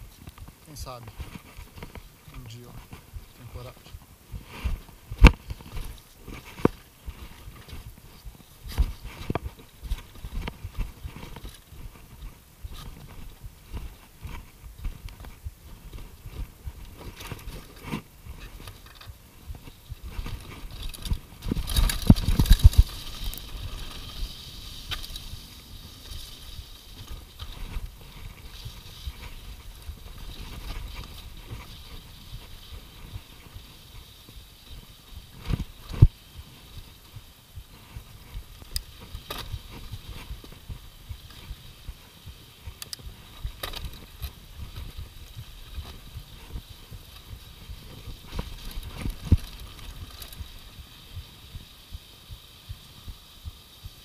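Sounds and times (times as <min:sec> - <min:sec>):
tyres rumbling on dirt trail: 0:00.0 - 0:54.0
bike knocking and rattling: 0:04.4 - 0:54.0.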